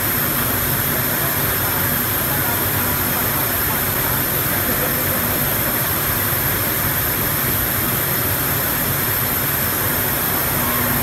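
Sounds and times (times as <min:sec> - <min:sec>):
factory machinery drone: 0:00.0 - 0:11.0.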